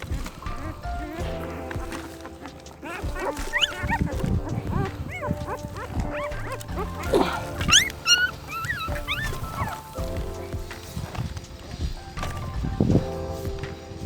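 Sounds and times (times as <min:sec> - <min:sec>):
puppies squealing and whining: 0:00.0 - 0:13.8
background music: 0:00.0 - 0:14.0.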